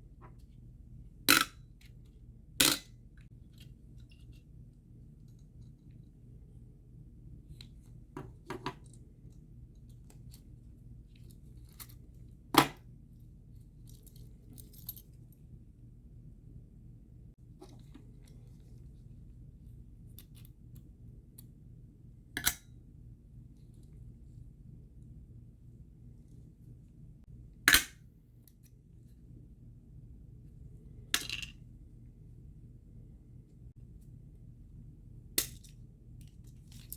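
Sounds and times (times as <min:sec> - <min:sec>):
faint low hum: 0:00.0 - 0:36.9.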